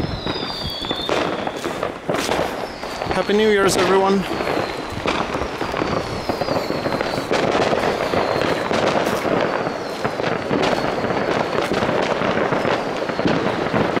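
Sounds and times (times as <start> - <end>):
firework whistles gliding down: 0.0 - 14.0
fireworks crackling bangs: 0.0 - 14.0.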